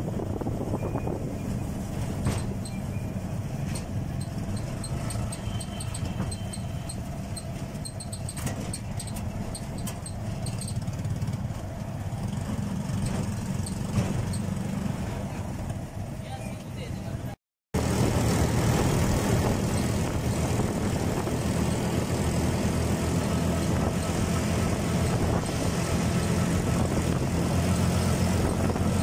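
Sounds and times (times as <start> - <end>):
auto-rickshaw engine running: 0.0 - 29.0
road noise: 0.0 - 29.0.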